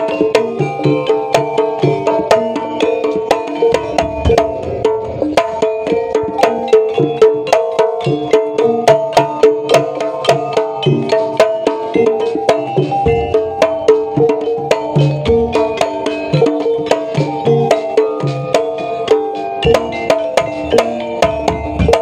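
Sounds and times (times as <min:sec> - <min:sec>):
fast steady drumming: 0:00.0 - 0:22.0
tuned percussion repeating pattern: 0:00.0 - 0:22.0.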